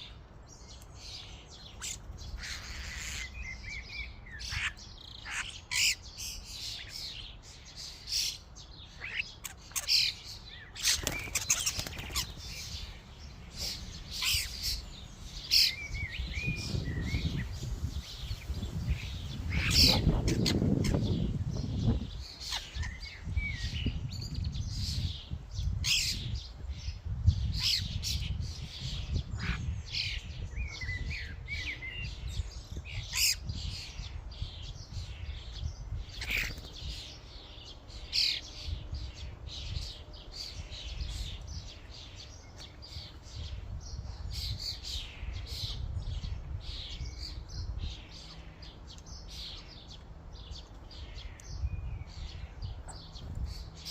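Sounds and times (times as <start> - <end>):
starlings chattering and squawking: 0.0 - 53.9.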